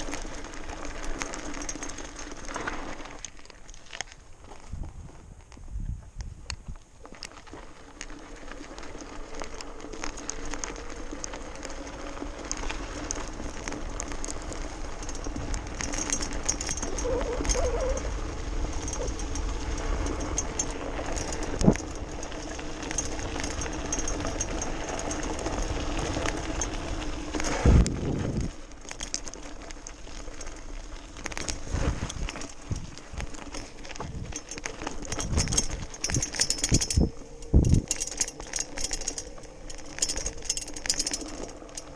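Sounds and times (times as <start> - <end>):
frame and chain rattle: 0.0 - 4.6, 7.1 - 41.9
tyres crunching on gravel: 0.0 - 5.6, 6.6 - 41.9.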